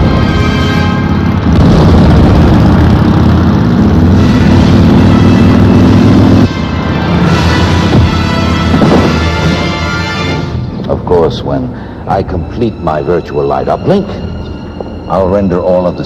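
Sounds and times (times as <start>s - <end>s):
low engine-like rumble: 0.0s - 16.0s
rising drone: 0.0s - 16.0s.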